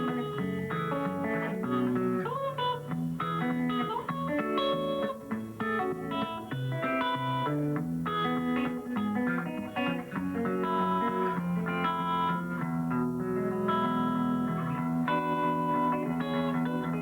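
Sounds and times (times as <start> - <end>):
fingerpicked guitar: 0.0 - 17.0.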